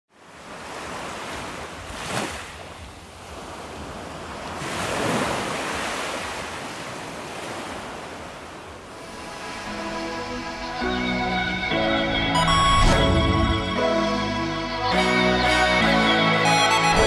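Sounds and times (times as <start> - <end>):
water washing in waves: 0.1 - 14.5.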